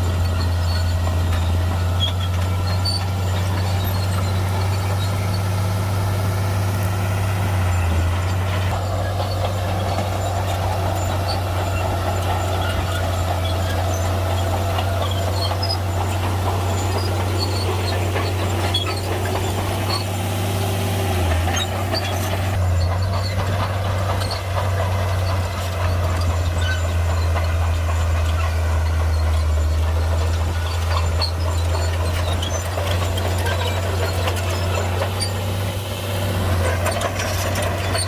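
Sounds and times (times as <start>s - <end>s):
bulldozer diesel engine droning: 0.0s - 38.0s.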